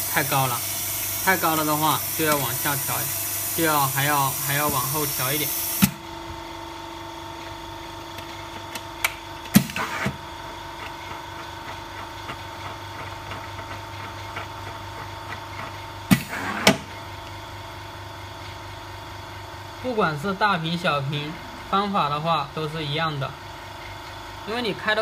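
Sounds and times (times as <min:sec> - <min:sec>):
laminating machine vacuum hum: 0:00.0 - 0:25.0.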